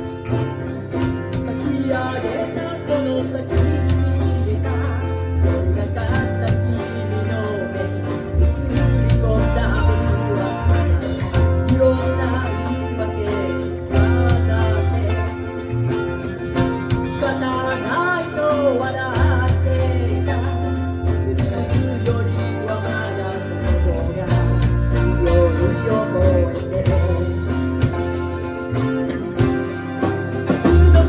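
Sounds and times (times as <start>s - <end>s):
live band playing pop ballad: 0.0s - 31.0s
person singing: 0.0s - 31.0s.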